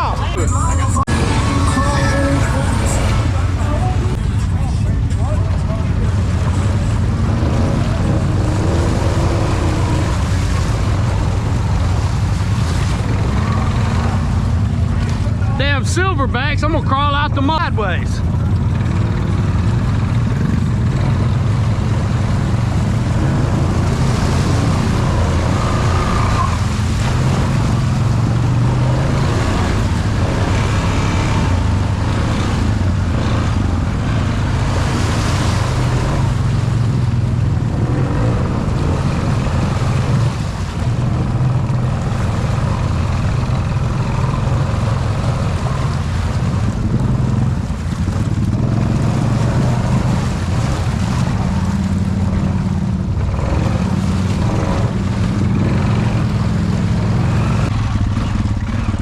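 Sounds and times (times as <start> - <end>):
atv engine running: 0.0 - 59.0
mud and water rushing: 0.0 - 59.0.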